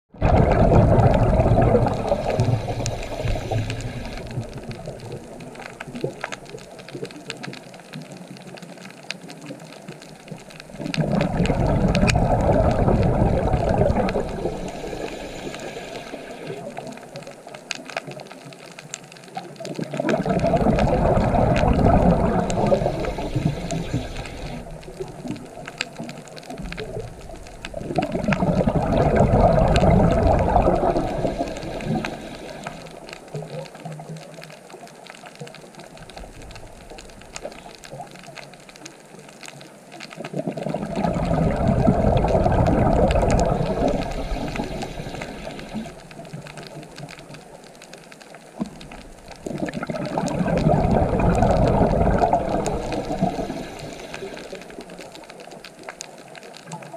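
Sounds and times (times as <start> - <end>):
underwater rush of water: 0.1 - 56.9
faint clicks: 0.9 - 56.9.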